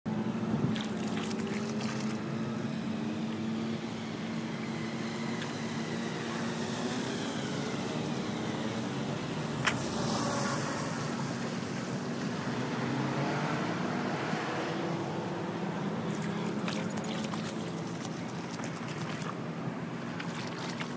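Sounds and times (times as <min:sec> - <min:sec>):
truck driving through floodwater: 0:00.1 - 0:20.9
vehicle engines running: 0:00.1 - 0:20.9.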